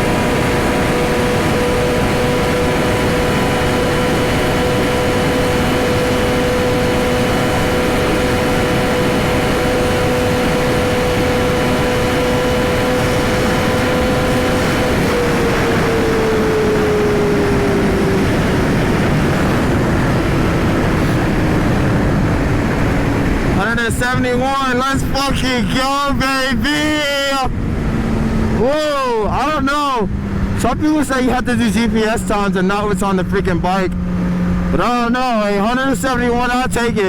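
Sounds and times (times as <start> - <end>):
motorcycle engine high-revving: 0.0 - 37.0
wind rush on microphone: 0.0 - 37.0.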